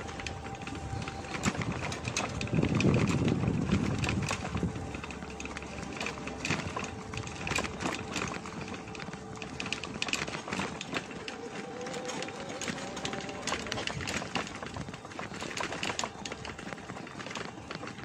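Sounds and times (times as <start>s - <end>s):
bicycle clicks and rattles: 0.0s - 18.0s.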